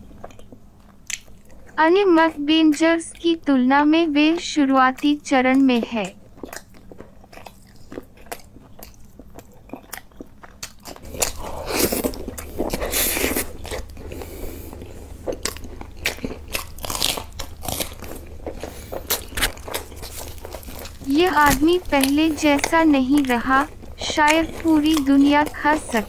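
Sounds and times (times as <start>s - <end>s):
low steady hum: 0.0s - 26.0s
wet chewing and biting: 0.0s - 26.0s.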